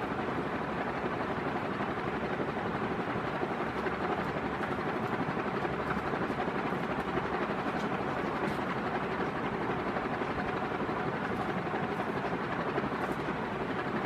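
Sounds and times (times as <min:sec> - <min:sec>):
ceiling fan air rushing: 0:00.0 - 0:14.0
faint hum: 0:00.0 - 0:14.0.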